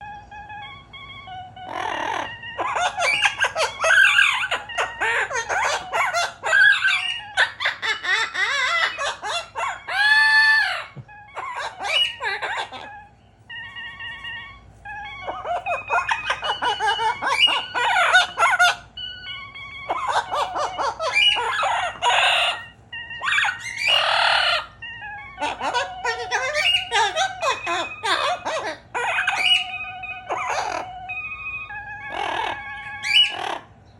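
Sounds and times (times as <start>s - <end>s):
parrot squawking and whistling: 0.0s - 33.9s.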